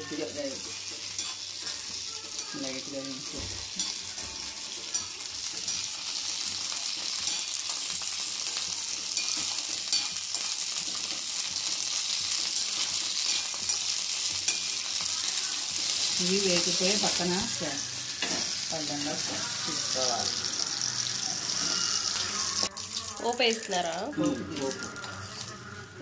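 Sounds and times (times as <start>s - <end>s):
chillies sizzling in oil: 0.0s - 26.0s
steel spoon scraping a pan: 0.1s - 22.7s.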